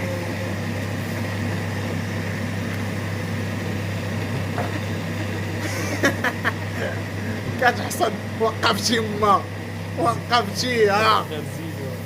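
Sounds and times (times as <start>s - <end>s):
steady motor hum: 0.0s - 12.0s.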